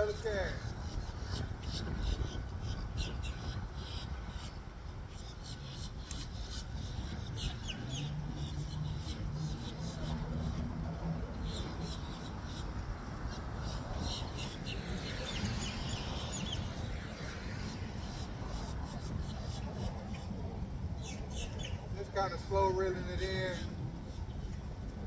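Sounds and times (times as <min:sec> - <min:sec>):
birds chirping: 0:00.0 - 0:24.4
wind and road noise rumble: 0:00.0 - 0:25.0.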